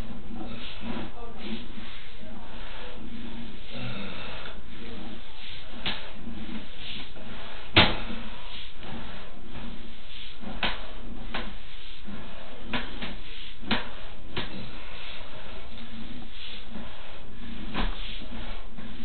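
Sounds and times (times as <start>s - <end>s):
steady noise: 0.0s - 19.0s.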